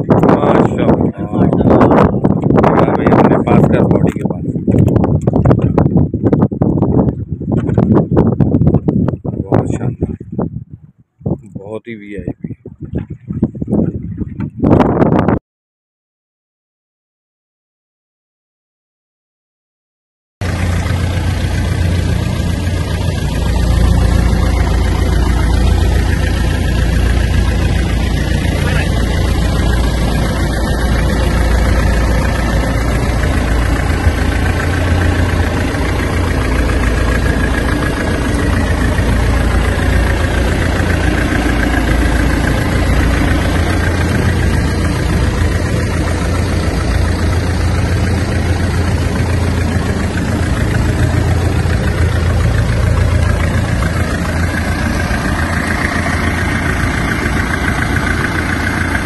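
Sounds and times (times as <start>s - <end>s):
boat engine deep hum: 0.0s - 14.9s, 20.4s - 59.0s.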